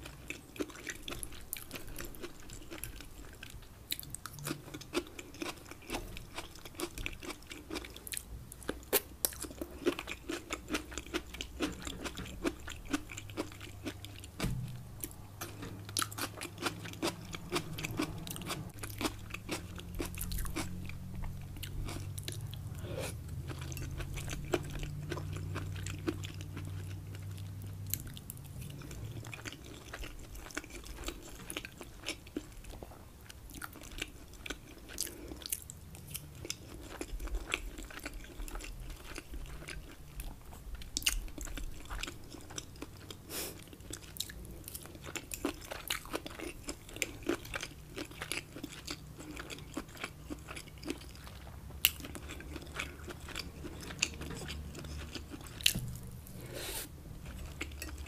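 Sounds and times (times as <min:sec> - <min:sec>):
chewing and crunching food: 0:00.0 - 0:58.0
low steady hum: 0:00.0 - 0:58.0.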